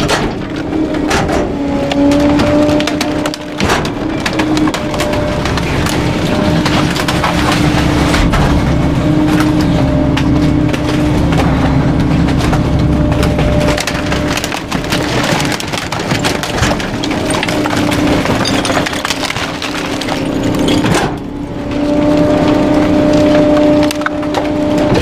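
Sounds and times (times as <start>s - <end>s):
low engine rumble: 0.0s - 25.0s
mechanical hum: 0.0s - 25.0s
waste cracking and splintering: 0.0s - 25.0s.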